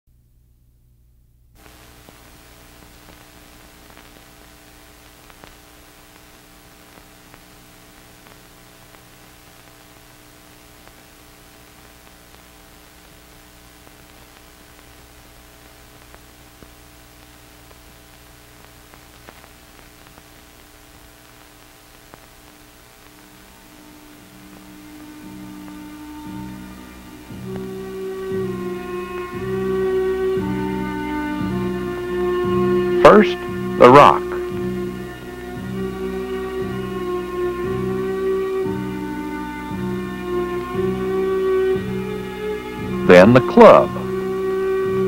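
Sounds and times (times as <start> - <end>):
film hiss and hum: 0.1 - 45.0.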